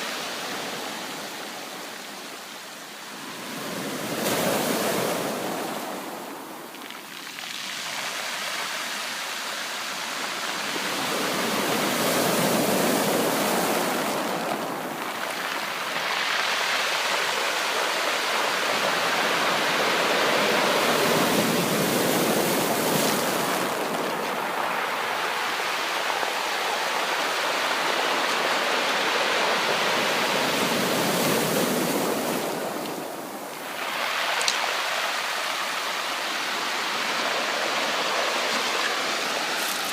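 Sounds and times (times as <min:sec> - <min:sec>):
sea waves breaking on beach: 0:03.0 - 0:39.9.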